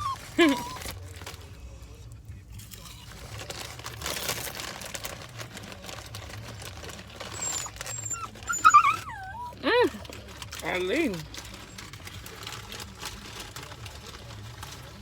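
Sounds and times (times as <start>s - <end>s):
chip bag crinkling: 0.0s - 1.8s, 2.5s - 15.0s
potato chips being eaten: 2.5s - 15.0s.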